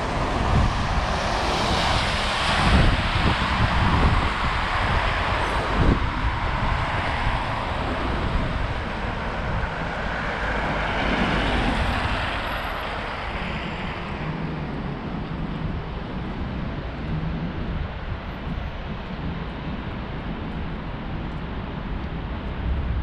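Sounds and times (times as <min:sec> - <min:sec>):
passing cars rushing: 0:00.0 - 0:18.9.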